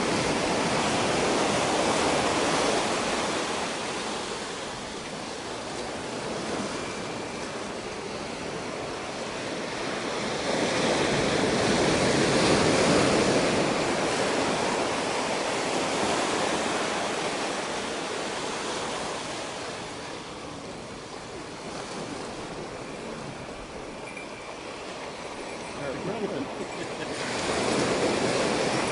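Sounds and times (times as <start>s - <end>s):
ocean surf washing on beach: 0.0s - 28.9s.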